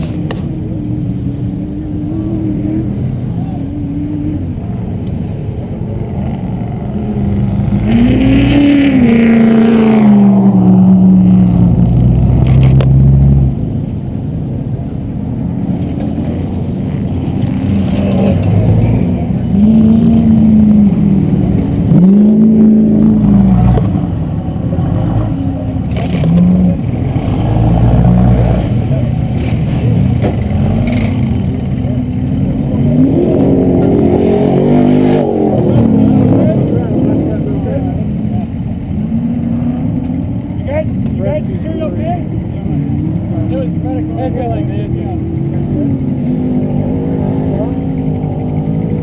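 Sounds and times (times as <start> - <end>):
race truck engines revving past: 0.0 - 49.0.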